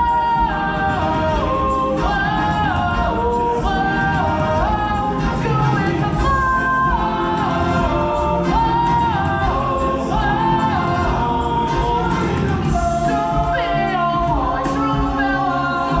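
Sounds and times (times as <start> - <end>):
backing track: 0.0 - 16.0
group singing show tune: 0.0 - 16.0.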